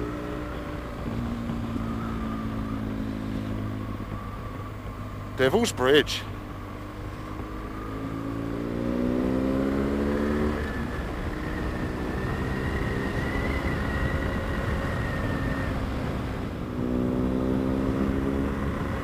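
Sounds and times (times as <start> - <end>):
motorcycle engine accelerating: 0.0 - 19.0
wind and road noise: 0.0 - 19.0.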